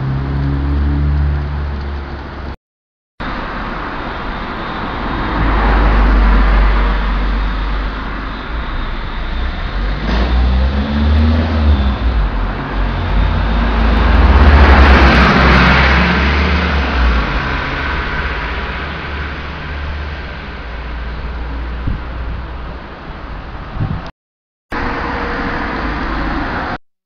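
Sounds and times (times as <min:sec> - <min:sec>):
cars passing: 0:00.0 - 0:02.6, 0:03.2 - 0:23.8, 0:24.7 - 0:26.8
deep traffic rumble: 0:00.0 - 0:02.6, 0:03.2 - 0:24.1, 0:24.7 - 0:26.8.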